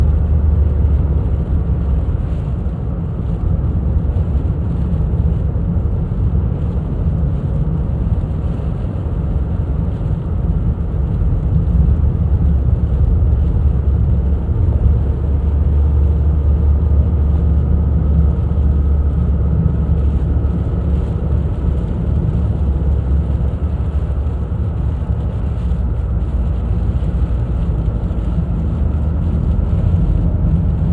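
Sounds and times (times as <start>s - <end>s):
car driving rumble: 0.0s - 30.9s.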